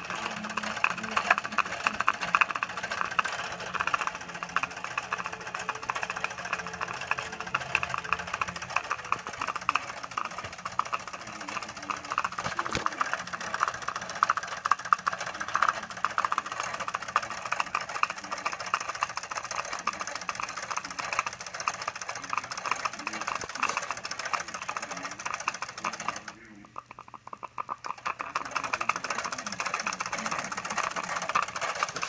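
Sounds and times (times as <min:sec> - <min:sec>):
steam engine ticking chuff: 0:00.0 - 0:32.0
toy gearing clatter: 0:00.0 - 0:32.0.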